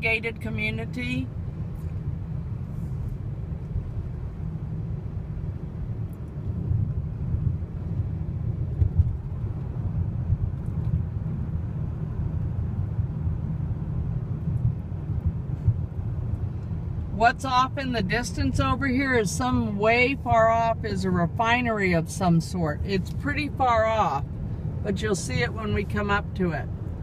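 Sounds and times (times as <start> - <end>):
car interior rumble: 0.0 - 27.0.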